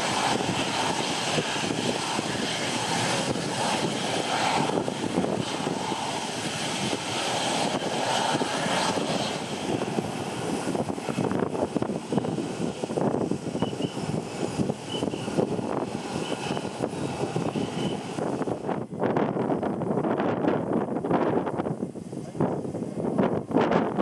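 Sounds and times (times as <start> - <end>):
jet airliner engines running: 0.0 - 24.0
wind buffeting microphone: 0.0 - 24.0.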